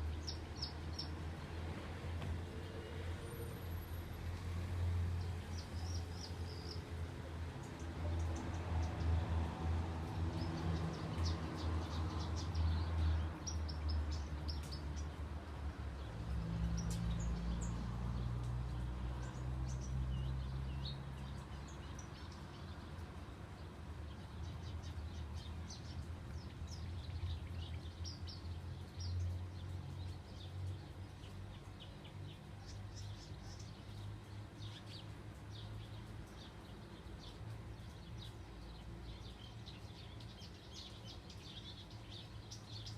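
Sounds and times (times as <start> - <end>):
birds chirping: 5.2 - 7.0, 10.0 - 42.9.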